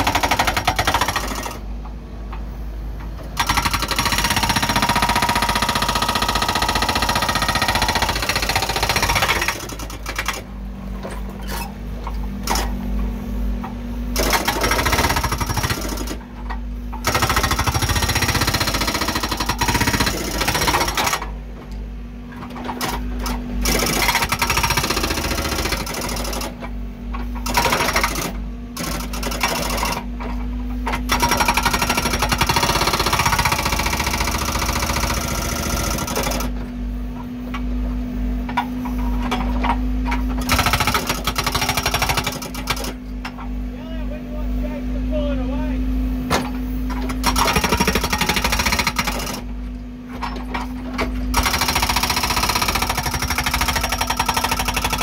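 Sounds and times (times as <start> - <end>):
hydraulic breaker pounding concrete: 0.0 - 1.7, 3.2 - 12.8, 14.1 - 21.4, 22.3 - 37.4, 38.4 - 43.6, 46.2 - 55.0
diesel engine running: 0.0 - 55.0.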